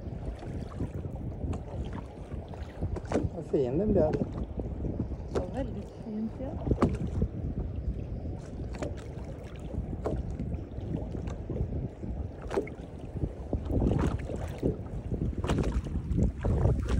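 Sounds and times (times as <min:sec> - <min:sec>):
water slapping against boat hull: 0:00.0 - 0:16.9
wind buffeting microphone: 0:00.0 - 0:16.9.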